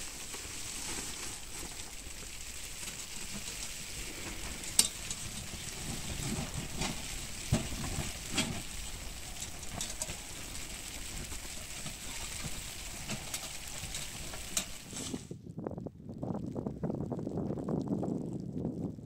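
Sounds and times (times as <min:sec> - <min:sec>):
food sizzling in a frying pan: 0:00.0 - 0:15.3.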